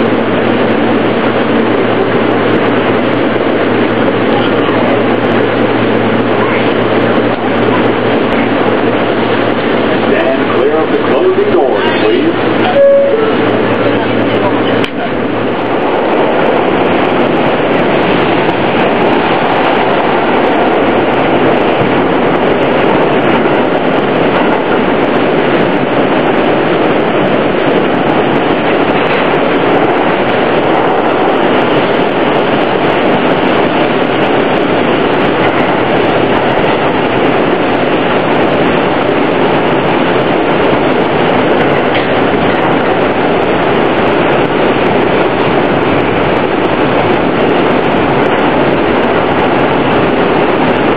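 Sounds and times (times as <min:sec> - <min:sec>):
subway car wheels rumbling: 0:00.0 - 0:50.9.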